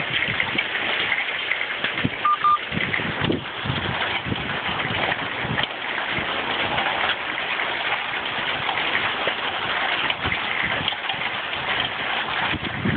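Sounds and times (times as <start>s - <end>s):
heavy rain pouring: 0.0s - 12.9s.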